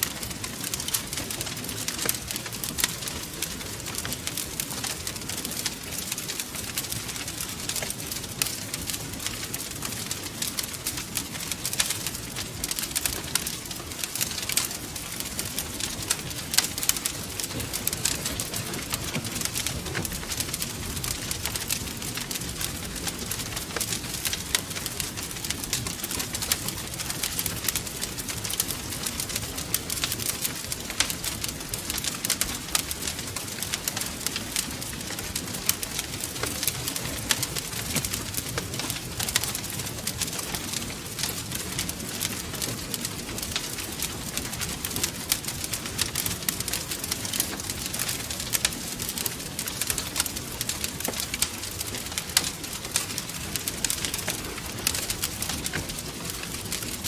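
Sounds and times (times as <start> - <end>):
low rumble of burning: 0.0 - 57.0
wood fire crackling: 0.0 - 57.0.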